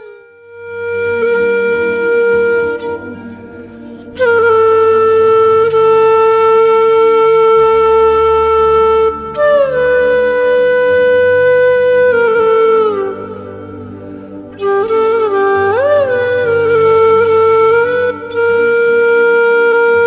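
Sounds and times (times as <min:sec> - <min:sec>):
woodwind slow melody: 0:00.0 - 0:20.0.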